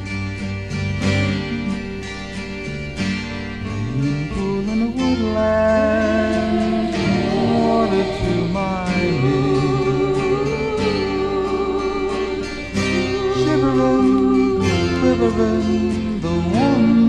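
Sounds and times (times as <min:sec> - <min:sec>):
folk rock song with guitars: 0:00.0 - 0:17.0.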